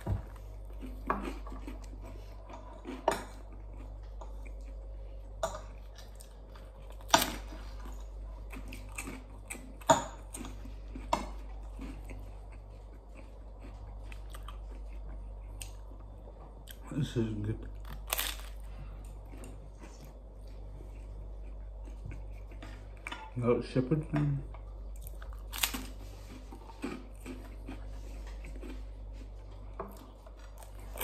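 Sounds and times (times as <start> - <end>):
person chewing food: 0.0 - 23.3, 24.4 - 31.0
steady low hum: 0.0 - 31.0.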